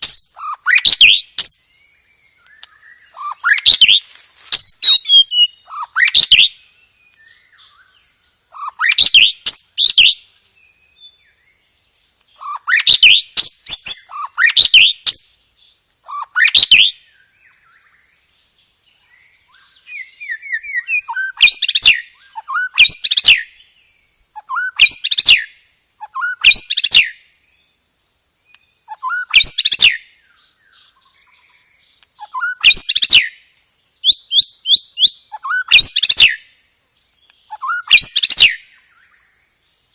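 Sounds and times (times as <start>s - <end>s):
bird singing stuttering phrases: 0.0s - 10.2s, 11.8s - 15.4s, 16.0s - 17.6s, 19.1s - 27.2s, 28.8s - 33.4s, 34.0s - 36.4s, 37.0s - 39.0s.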